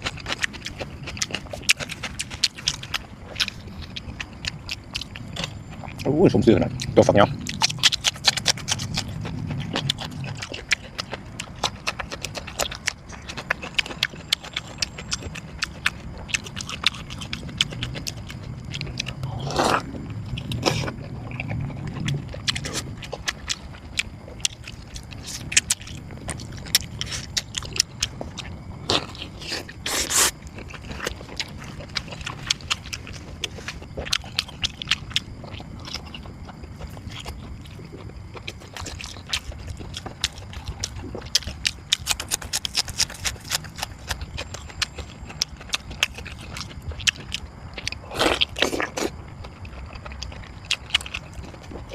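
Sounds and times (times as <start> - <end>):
person chewing and biting food: 0.0 - 6.2, 6.8 - 51.9.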